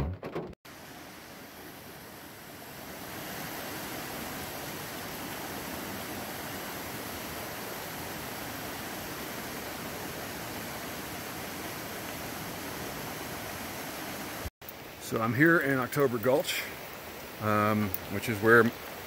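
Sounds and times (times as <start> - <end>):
stream water over rocks: 0.6 - 19.0.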